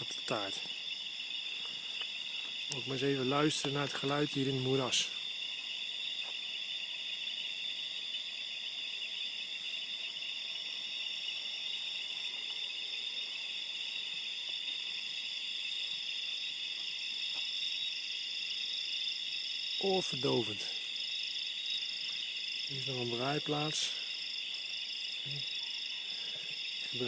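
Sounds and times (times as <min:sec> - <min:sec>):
crickets and frogs trilling: 0:00.0 - 0:27.0.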